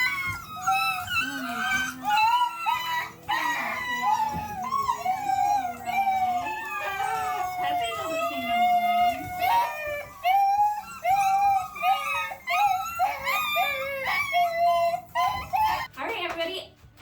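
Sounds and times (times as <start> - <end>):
puppies whining and yelping: 0.0 - 15.9
puppy howl-like cry: 0.0 - 15.9.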